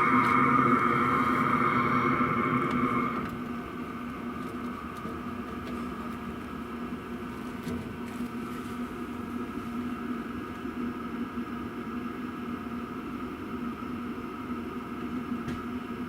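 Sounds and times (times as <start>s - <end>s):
diesel heater humming: 0.0s - 16.0s.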